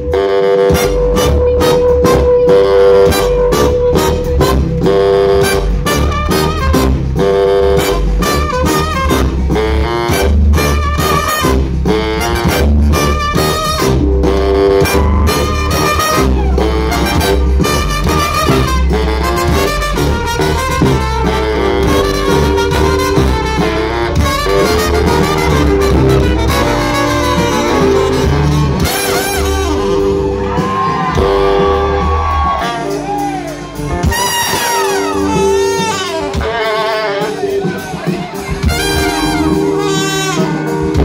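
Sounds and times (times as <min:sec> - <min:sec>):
bass guitar: 0:00.0 - 0:41.0
electric guitar: 0:00.0 - 0:41.0
trumpet and saxophones horn line: 0:00.0 - 0:41.0
drum beat: 0:00.7 - 0:41.0.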